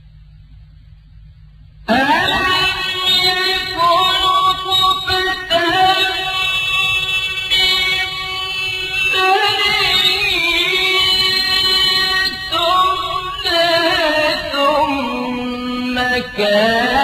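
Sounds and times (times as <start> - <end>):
melodic recitation voice: 1.8 - 17.0.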